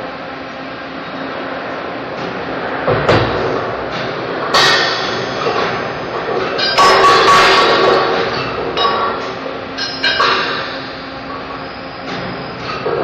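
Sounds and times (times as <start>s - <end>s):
steel pipes clanging: 2.1s - 13.0s.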